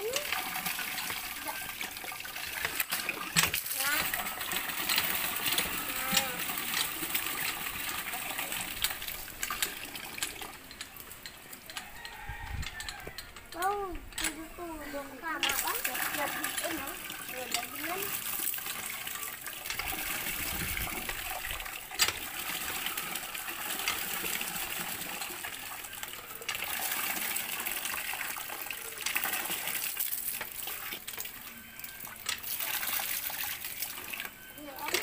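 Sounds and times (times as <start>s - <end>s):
water gushing into plastic basin: 0.0s - 11.1s, 15.0s - 35.0s.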